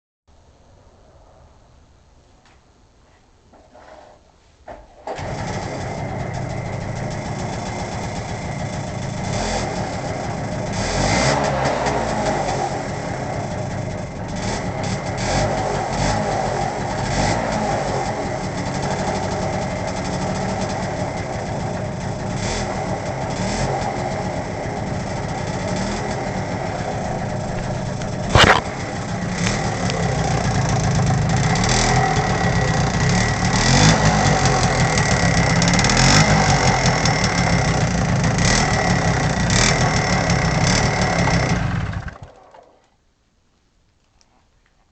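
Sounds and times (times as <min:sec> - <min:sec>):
moped engine running: 0:05.2 - 0:42.4.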